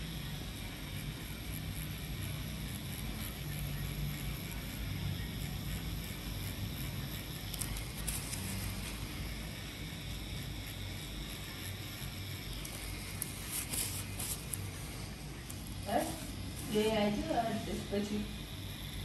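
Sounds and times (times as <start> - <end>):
tattoo machine buzzing: 0.0 - 19.0.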